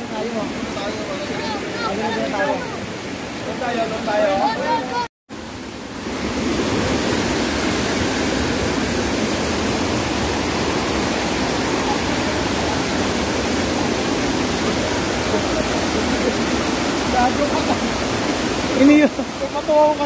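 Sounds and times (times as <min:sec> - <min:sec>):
water rushing over cascade: 0:00.0 - 0:20.0.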